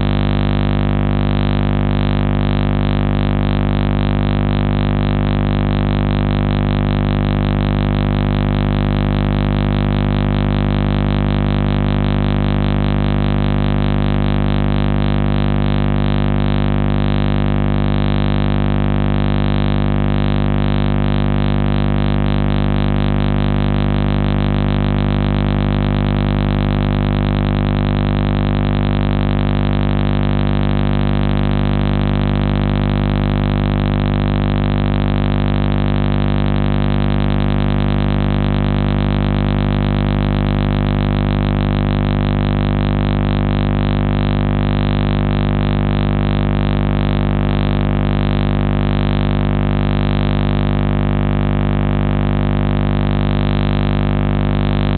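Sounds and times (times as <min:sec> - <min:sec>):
loud electrical buzz: 0:00.0 - 0:54.9.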